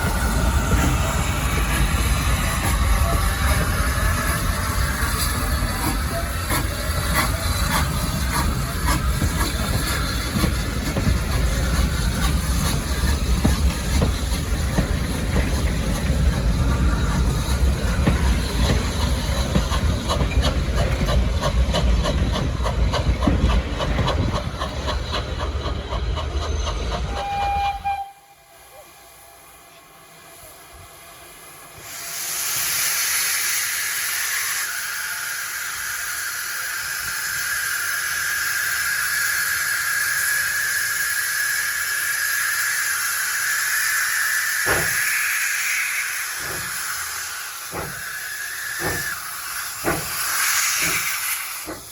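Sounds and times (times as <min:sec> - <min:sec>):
steam locomotive hissing steam: 0:00.0 - 0:51.9.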